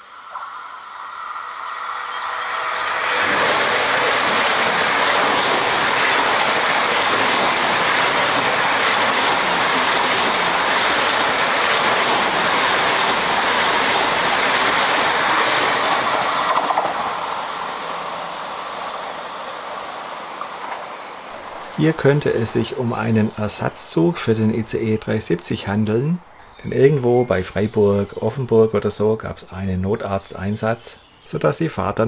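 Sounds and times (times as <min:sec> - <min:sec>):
high-speed train passing: 0:00.0 - 0:26.4.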